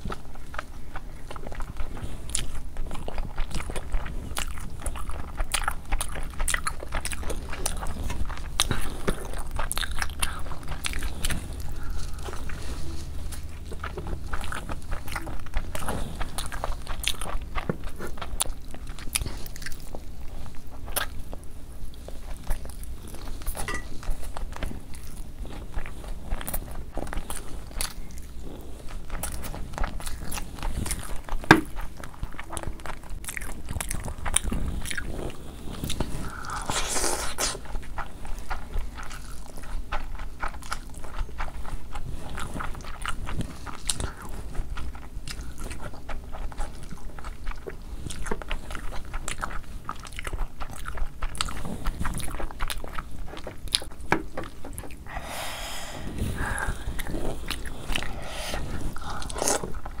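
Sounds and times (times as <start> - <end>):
person biting and chewing food: 0.0 - 60.0.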